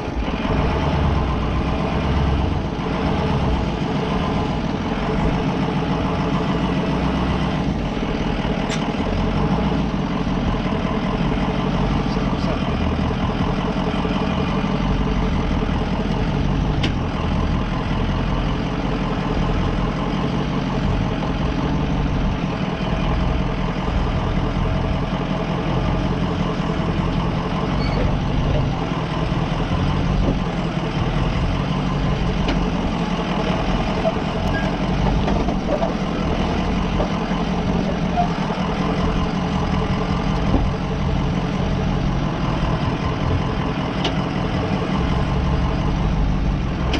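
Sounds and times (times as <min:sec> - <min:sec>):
van engine running at low revs: 0:00.0 - 0:46.9.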